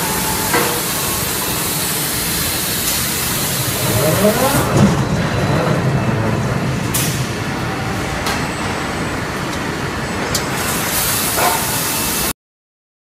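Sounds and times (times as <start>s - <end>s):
forging machinery noise: 0.0s - 12.1s.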